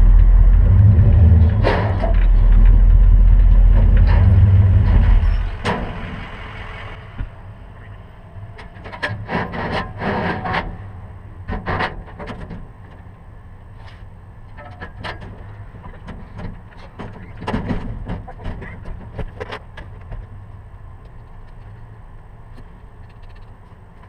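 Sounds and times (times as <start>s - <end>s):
vehicle engine and road hum: 0.0s - 24.0s.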